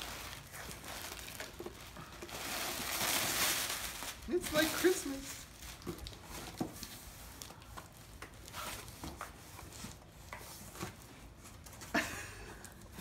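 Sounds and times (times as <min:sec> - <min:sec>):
cardboard rustling and scraping: 0:00.0 - 0:11.9.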